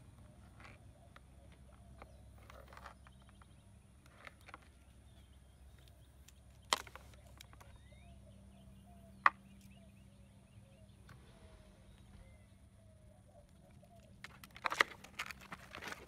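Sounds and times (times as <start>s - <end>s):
faint bird chirps: 0.0s - 14.2s.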